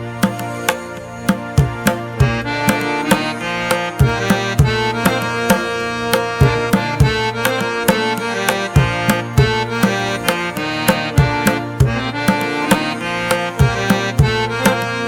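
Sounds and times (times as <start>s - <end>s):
sustained pitched notes: 0.0s - 15.0s
hand drum beat: 0.2s - 15.0s.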